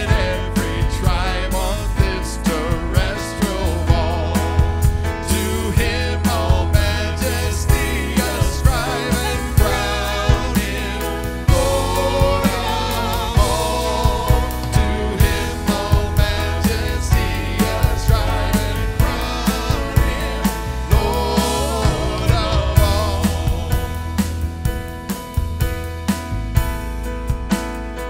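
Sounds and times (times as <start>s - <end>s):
people singing: 0.0s - 24.5s
keyboard: 0.0s - 28.0s
electronic drum beat: 2.8s - 26.0s.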